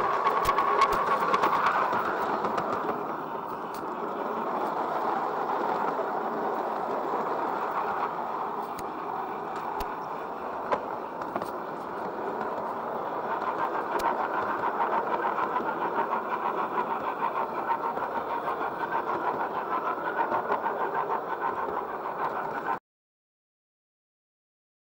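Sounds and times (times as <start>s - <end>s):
model train whirring rattle: 0.0s - 22.8s.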